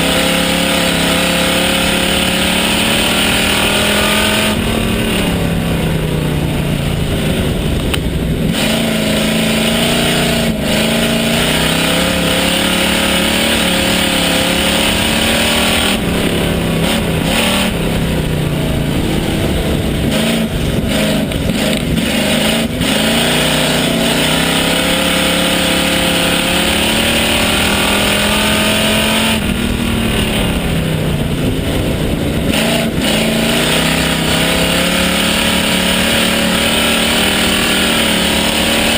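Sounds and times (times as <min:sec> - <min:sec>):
race car engine from inside: 0:00.0 - 0:38.9.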